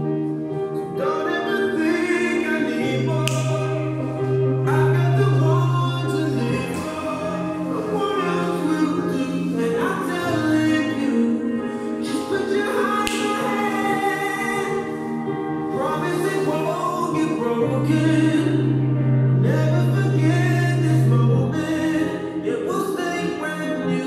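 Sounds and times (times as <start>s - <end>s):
song playing from portable stereo: 0.0s - 24.0s.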